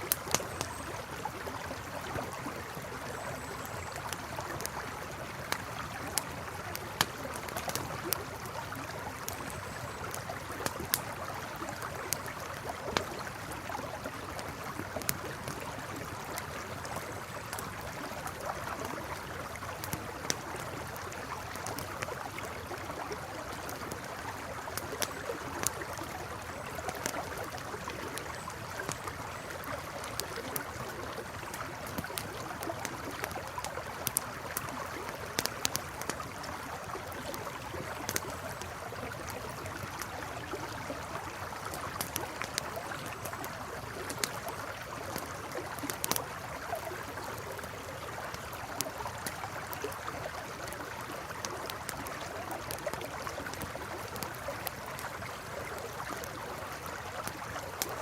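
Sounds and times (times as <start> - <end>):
campfire crackling and popping: 0.0 - 58.0
river flowing: 0.0 - 58.0.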